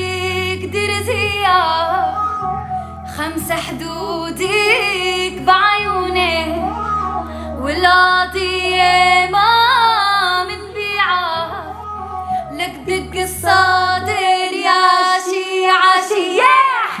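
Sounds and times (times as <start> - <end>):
girl singing with vibrato: 0.0 - 17.0.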